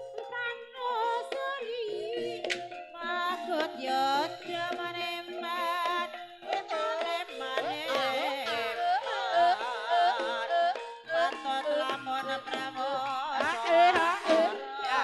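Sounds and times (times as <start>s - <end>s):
sustained metallophone tones: 0.0s - 15.0s.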